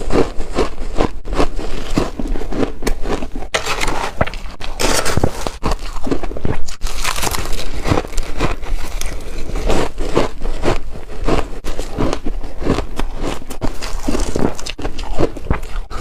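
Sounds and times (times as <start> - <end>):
person crunching ice: 0.0 - 16.0.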